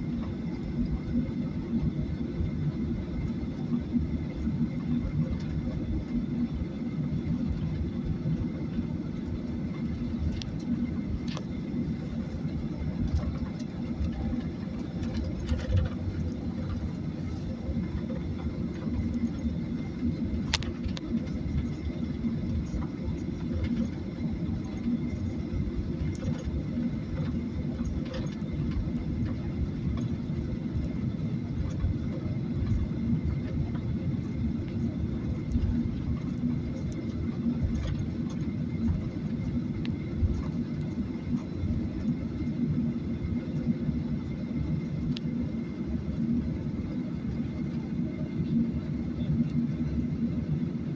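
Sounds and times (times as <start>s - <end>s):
airplane cabin engine rumble: 0.0s - 50.9s
faint high whine: 0.0s - 50.9s.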